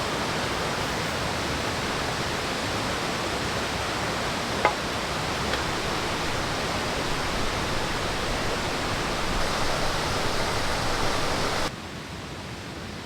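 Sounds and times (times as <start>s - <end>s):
waterfall and stream rushing: 0.0s - 11.7s.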